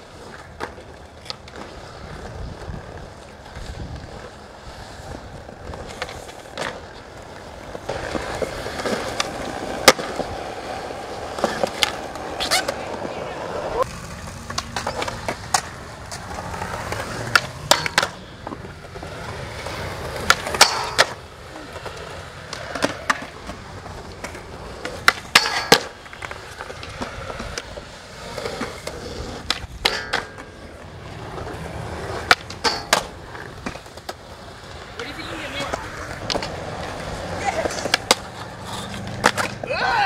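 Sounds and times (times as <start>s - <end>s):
skateboard rolling on concrete: 0.0s - 40.0s
skateboard clacking and landing: 0.1s - 40.0s.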